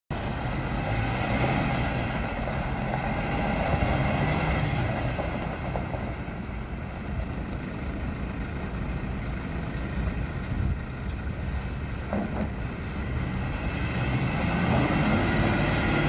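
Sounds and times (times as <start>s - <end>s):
truck diesel engine pulling away: 0.1s - 16.0s
tyres on gravel: 0.1s - 16.0s.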